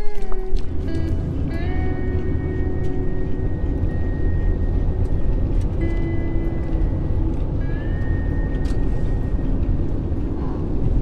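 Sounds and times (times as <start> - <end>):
road rumble inside car: 0.0 - 11.0.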